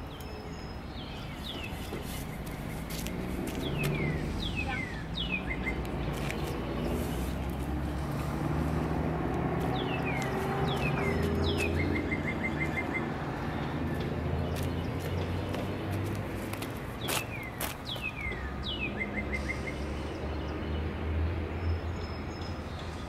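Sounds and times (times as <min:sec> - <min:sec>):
distant traffic rumble: 0:00.0 - 0:23.0.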